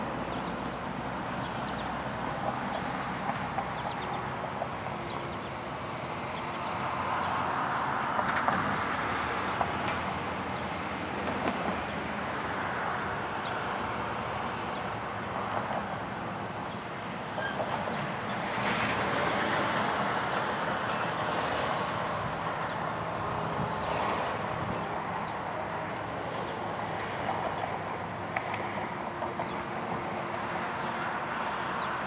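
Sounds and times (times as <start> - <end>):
vehicles passing: 0.0 - 32.0
wind: 0.0 - 32.0.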